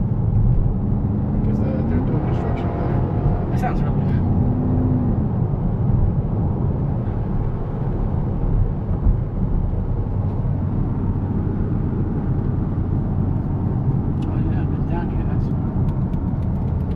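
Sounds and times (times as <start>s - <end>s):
car engine low drone: 0.0s - 16.9s
road noise: 0.0s - 16.9s.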